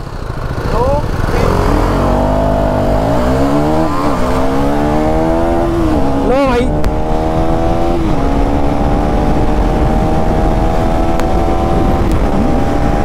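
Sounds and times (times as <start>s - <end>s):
motorcycle engine accelerating: 0.0s - 13.0s
heavy wind rush: 1.0s - 13.0s.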